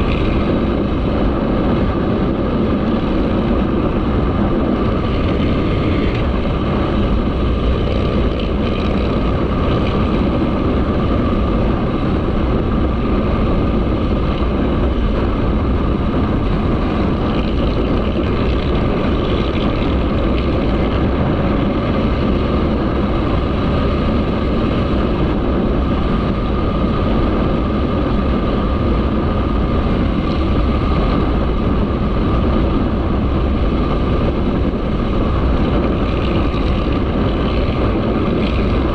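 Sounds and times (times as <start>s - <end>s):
motorcycle running: 0.0s - 38.9s
wind on microphone: 0.0s - 38.9s.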